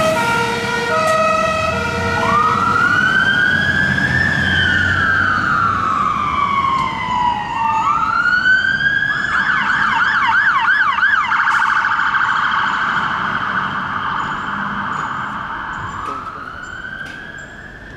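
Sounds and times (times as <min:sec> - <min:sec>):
fire engine siren: 0:00.0 - 0:17.9.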